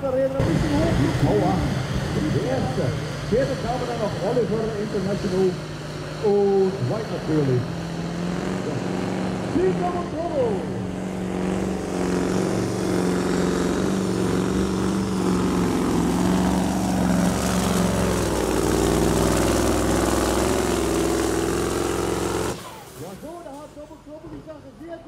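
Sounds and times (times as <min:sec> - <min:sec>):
loud motor drone: 0:00.2 - 0:23.3.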